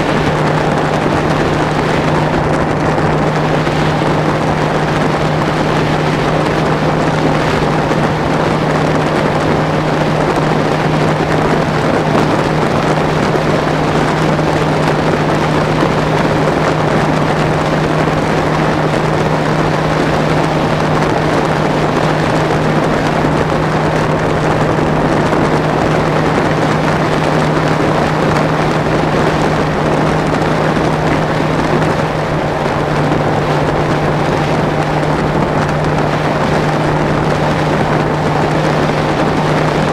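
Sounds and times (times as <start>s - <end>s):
outboard motor running: 0.0s - 39.9s
wind and water rushing: 0.0s - 39.9s.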